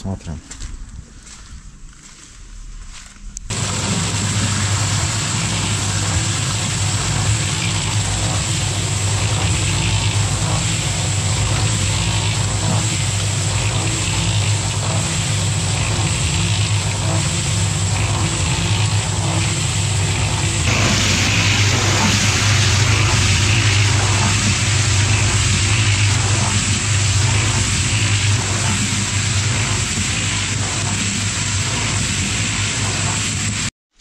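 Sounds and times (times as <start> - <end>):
concrete mixer motor hum: 3.2 - 34.0.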